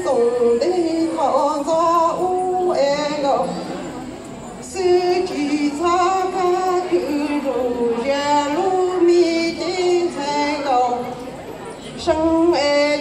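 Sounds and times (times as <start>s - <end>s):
woman singing: 0.0s - 3.6s, 4.6s - 11.1s, 12.0s - 13.0s.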